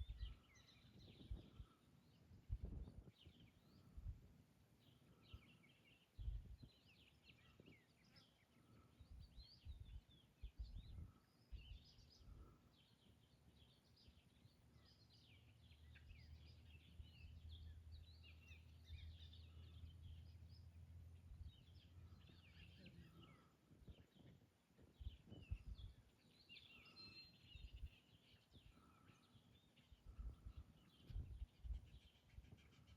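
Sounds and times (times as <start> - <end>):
birds chirping: 0.0 - 4.2, 4.8 - 32.9.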